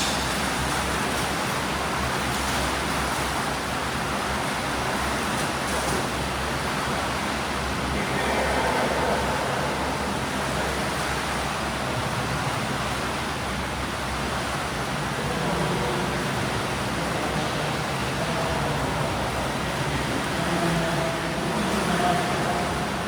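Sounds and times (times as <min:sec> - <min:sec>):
swimmers splashing water: 0:00.0 - 0:23.0.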